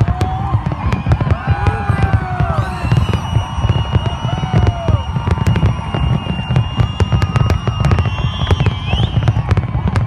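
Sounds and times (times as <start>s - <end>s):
fireworks crackles and pops: 0.0s - 10.0s.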